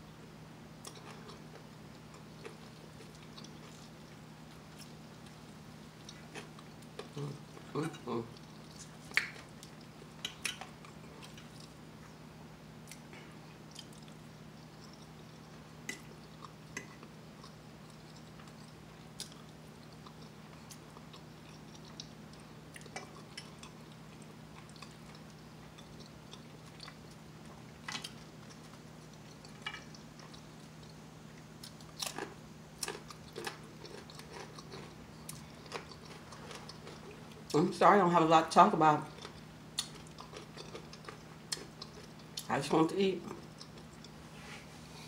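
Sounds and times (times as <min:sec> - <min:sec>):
steady low hum: 0:00.0 - 0:45.0
person chewing soft food: 0:00.8 - 0:37.6, 0:39.0 - 0:42.5, 0:43.2 - 0:45.0.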